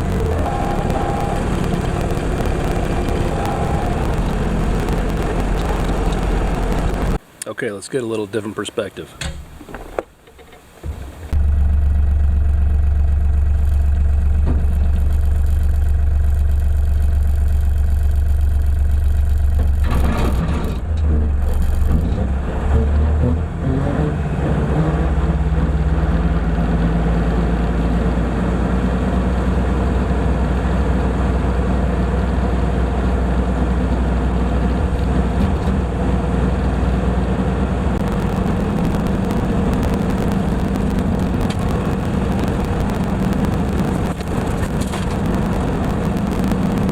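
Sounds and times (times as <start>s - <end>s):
tractor with mower droning: 0.0s - 7.2s, 10.8s - 23.1s, 24.6s - 46.9s.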